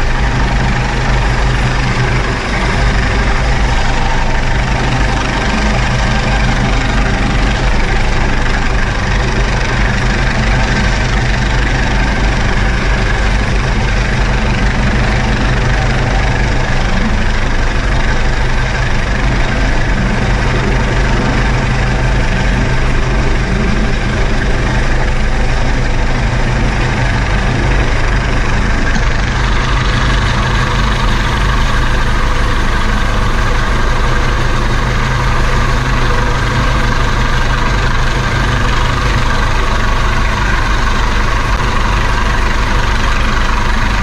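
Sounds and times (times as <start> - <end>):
helicopter rotor and turbine: 0.0 - 44.0.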